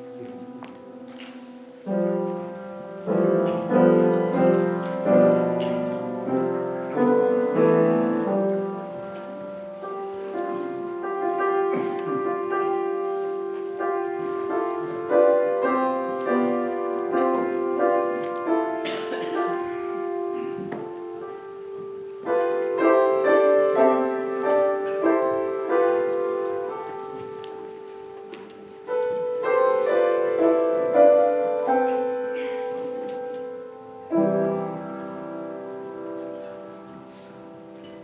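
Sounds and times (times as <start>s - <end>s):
piano playing slow chords: 0.0s - 38.0s.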